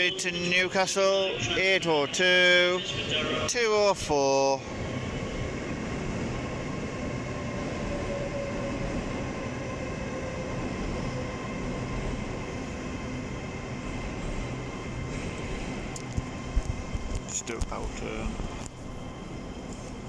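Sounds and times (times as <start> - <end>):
faint train whine: 0.0 - 20.0
train rumbling slowly: 0.0 - 20.0.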